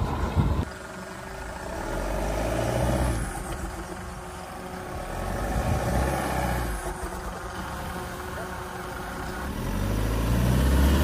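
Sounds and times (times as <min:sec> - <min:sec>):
suv engine revving under load: 0:00.0 - 0:11.0.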